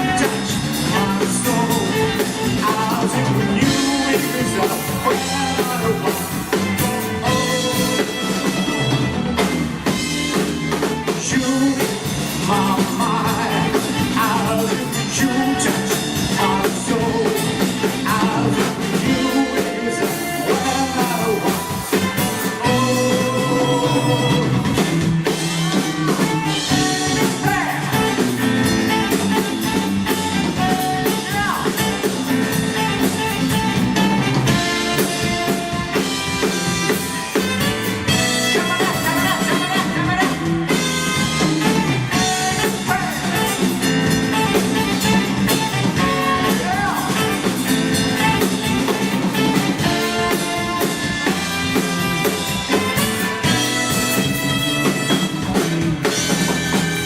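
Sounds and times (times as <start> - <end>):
drum kit: 0.0 - 57.0
electric guitar: 0.0 - 57.0
live band playing: 0.0 - 57.0.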